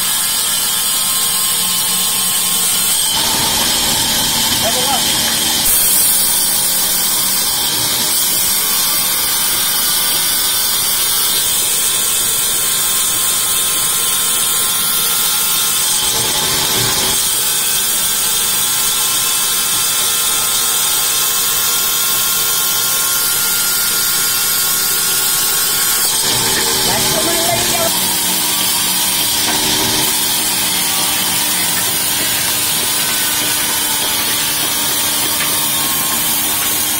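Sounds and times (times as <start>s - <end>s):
band saw cutting log: 0.0s - 36.9s.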